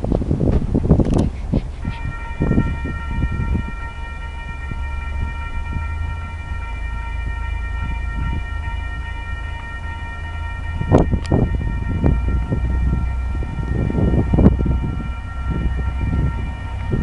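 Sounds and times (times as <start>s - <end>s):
train rumbling past: 0.0s - 17.0s
high-pitched ringing whine: 1.8s - 17.0s.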